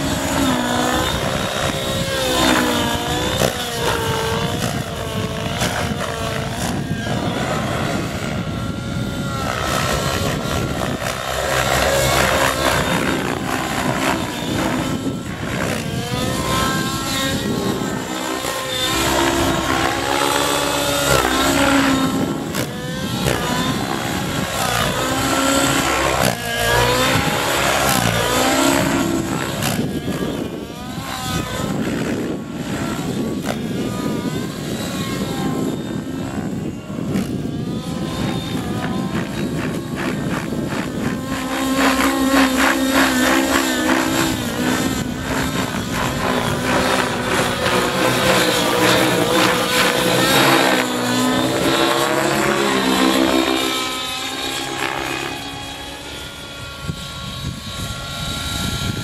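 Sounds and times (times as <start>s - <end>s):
model helicopter engine and rotor: 0.0s - 59.0s.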